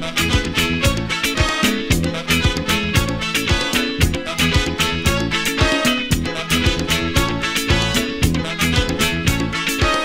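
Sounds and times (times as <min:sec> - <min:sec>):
bass: 0:00.0 - 0:10.0
guitar lines: 0:00.0 - 0:10.0
steady drum beat: 0:00.2 - 0:10.0.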